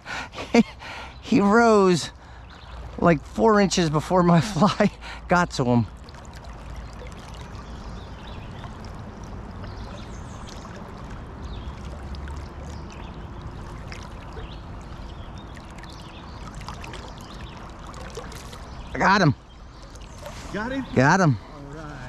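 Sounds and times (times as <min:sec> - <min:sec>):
flowing river: 0:00.0 - 0:22.0.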